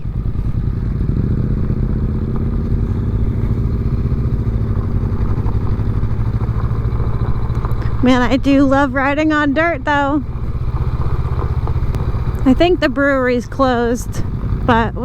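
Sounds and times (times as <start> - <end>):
motorcycle engine running: 0.0 - 15.0
tyres on gravel: 0.0 - 15.0.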